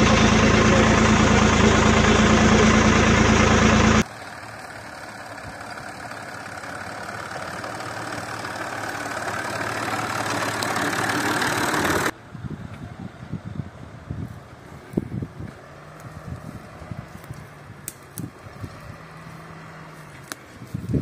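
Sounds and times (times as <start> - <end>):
tractor engine running: 0.0 - 12.2, 14.8 - 21.0.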